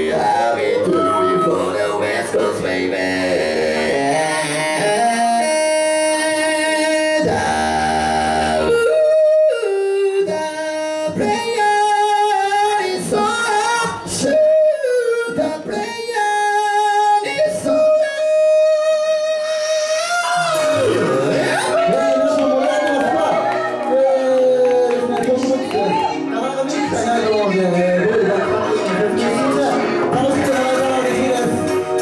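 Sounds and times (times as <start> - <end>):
man singing into a microphone: 0.0 - 22.6, 26.6 - 32.0
electronic keyboard chords: 0.0 - 32.0.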